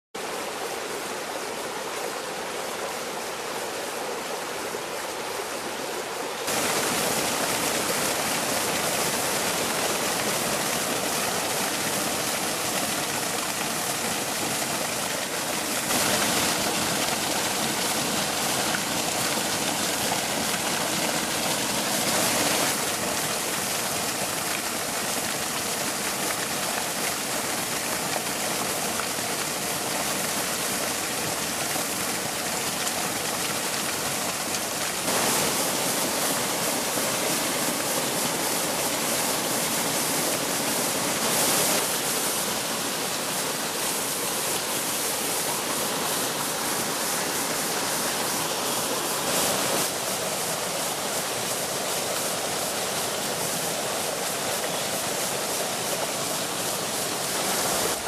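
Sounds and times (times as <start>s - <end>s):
small waterfall splashing over rocks: 0.2s - 58.0s.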